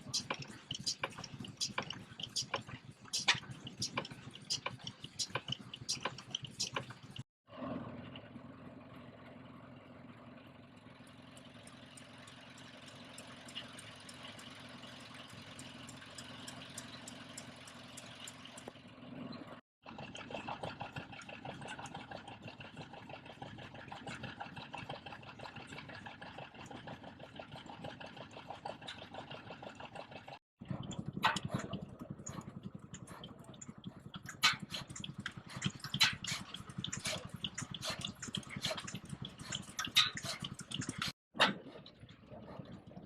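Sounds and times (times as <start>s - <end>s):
stationary engines running: 0.0s - 41.2s.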